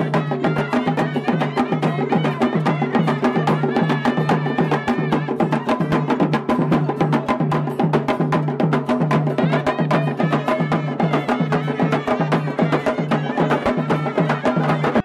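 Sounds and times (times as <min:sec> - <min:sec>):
fast percussion strokes: 0:00.0 - 0:15.0.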